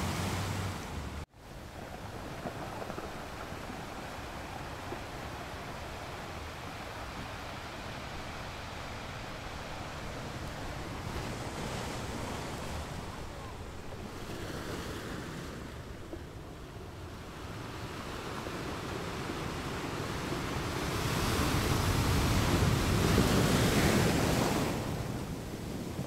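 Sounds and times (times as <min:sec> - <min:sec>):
ocean wave breaking on shore: 0:00.0 - 0:01.3, 0:01.9 - 0:26.0.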